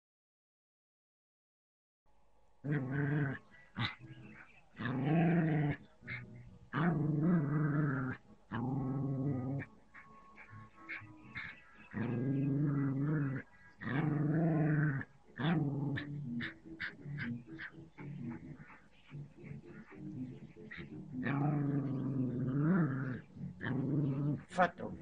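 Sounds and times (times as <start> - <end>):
small dog growling: 2.6 - 25.0.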